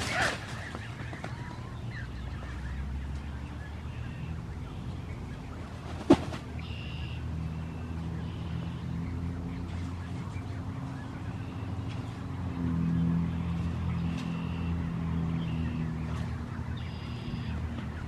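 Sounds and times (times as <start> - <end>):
goslings peeping: 0.0 - 18.0.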